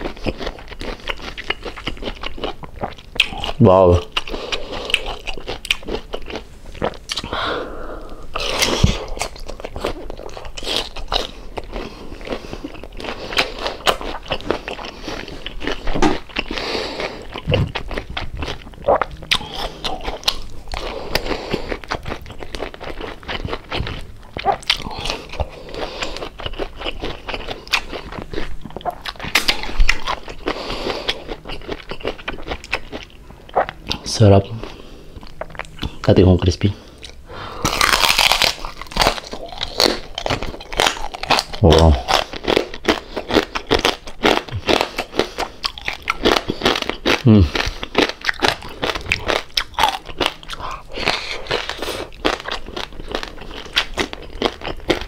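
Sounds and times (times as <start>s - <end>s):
loud crunching of fried food: 0.0s - 7.4s, 8.3s - 36.2s, 37.0s - 55.0s
wet chewing: 0.0s - 7.4s, 8.0s - 36.2s, 36.9s - 55.0s.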